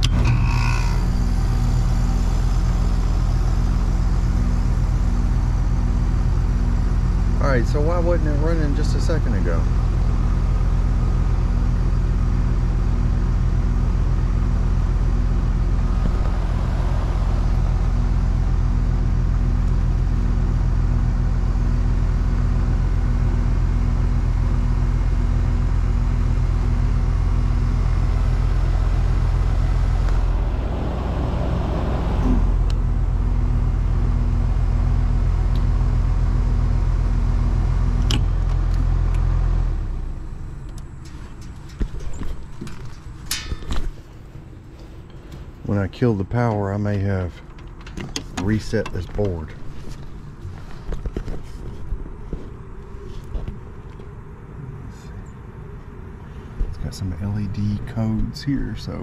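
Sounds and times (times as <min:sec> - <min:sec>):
heat pump fan humming: 0:00.0 - 0:59.0.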